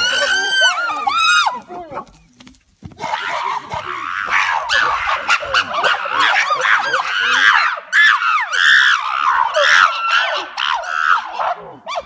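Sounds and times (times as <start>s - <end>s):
chimpanzees hooting and squealing: 0.0s - 1.6s, 3.0s - 12.0s.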